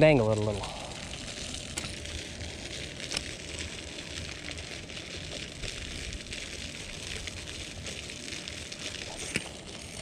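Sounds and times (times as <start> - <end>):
reel winding crackling hiss: 0.0 - 10.0.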